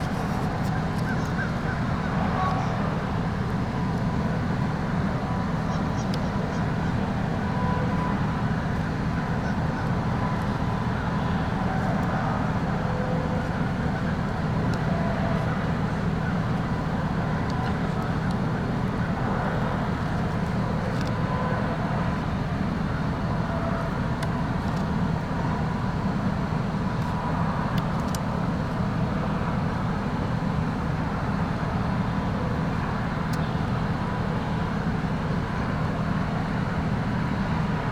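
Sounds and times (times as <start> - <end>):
traffic rumble: 0.0 - 37.9.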